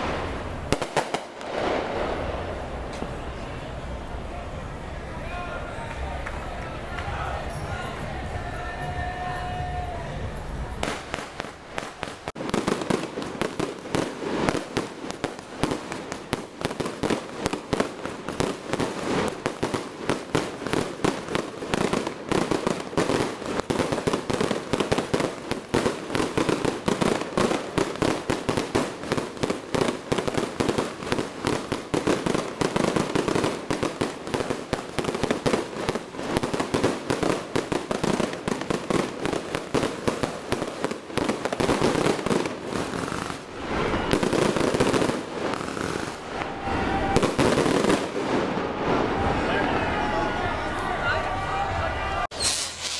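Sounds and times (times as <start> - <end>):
firecrackers crackling: 0.0 - 52.9.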